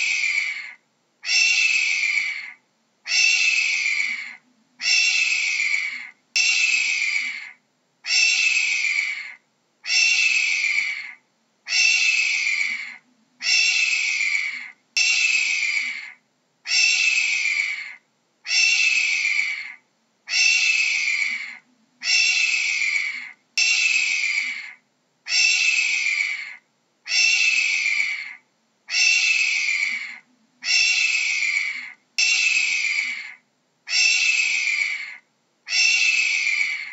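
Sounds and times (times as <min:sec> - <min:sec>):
hawk screaming calls: 0:00.0 - 0:36.9.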